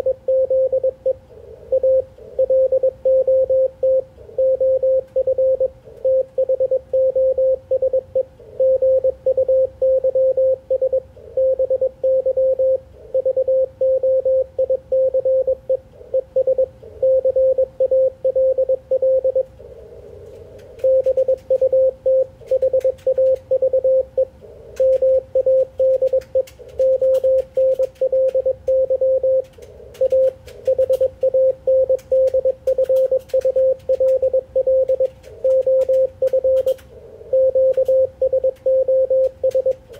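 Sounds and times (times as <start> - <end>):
morse code tone: 0.0 - 19.5, 20.8 - 39.8
faint static clicks: 0.0 - 39.9.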